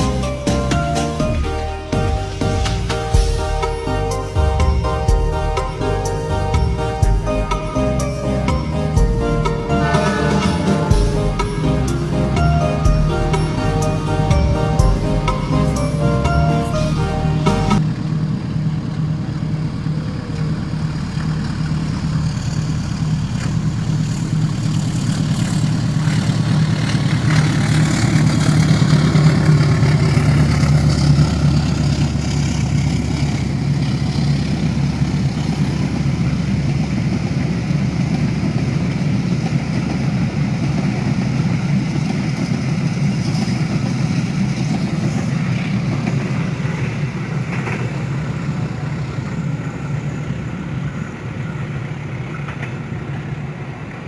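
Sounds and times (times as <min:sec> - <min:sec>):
diesel locomotive engine hum: 0:00.0 - 0:54.0
train carriages rumbling by: 0:00.0 - 0:54.0.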